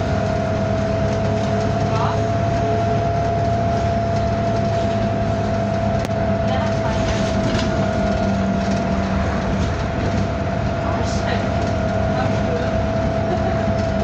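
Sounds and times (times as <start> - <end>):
bus engine drone: 0.0 - 14.0
bus high-pitched whine: 0.0 - 14.0.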